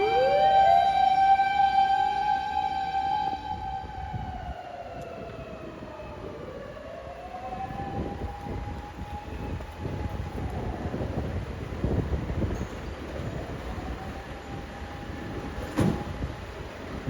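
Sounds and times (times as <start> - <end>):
fire engine siren wailing: 0.0 - 17.0
low traffic rumble: 0.0 - 17.0.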